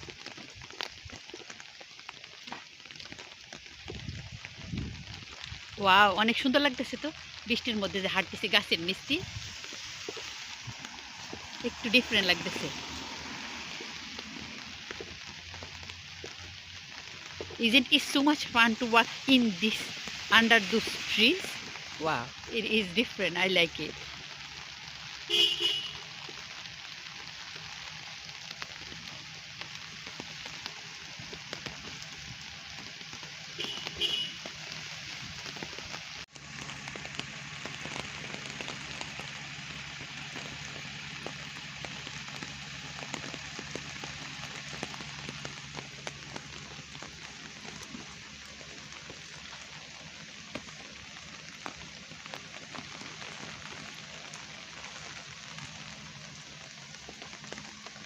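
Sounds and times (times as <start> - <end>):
steady rain with drop taps: 0.0 - 58.0.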